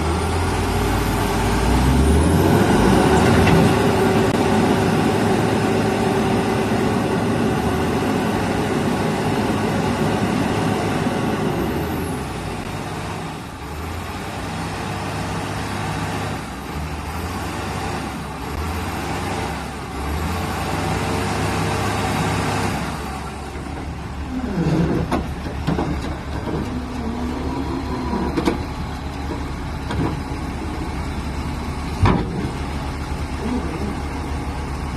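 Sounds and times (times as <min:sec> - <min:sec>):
truck engine under load: 0:00.0 - 0:34.9.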